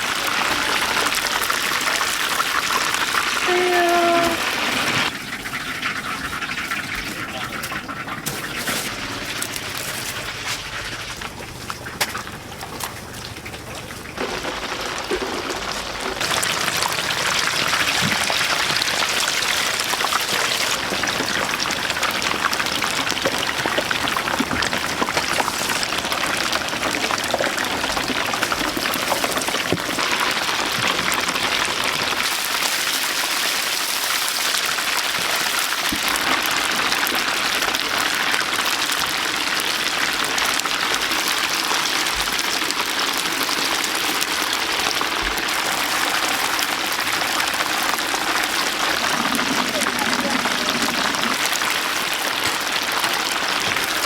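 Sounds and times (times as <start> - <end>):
chicken deep-frying in oil: 0.0 - 54.0.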